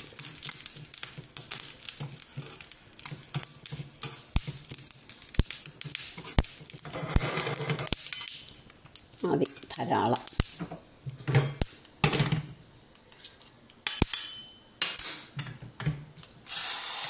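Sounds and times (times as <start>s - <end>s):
mustard seeds popping in hot oil: 0.0s - 14.2s.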